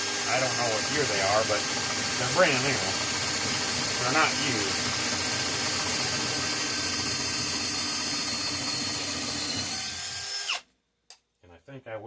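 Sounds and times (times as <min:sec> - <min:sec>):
power tool motor whining: 0:00.0 - 0:10.6.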